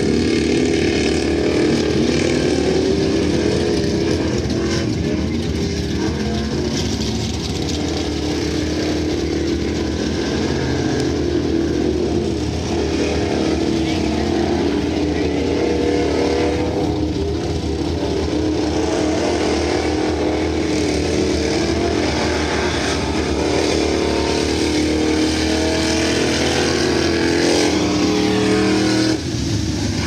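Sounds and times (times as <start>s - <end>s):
truck engines running hard: 0.0s - 30.0s.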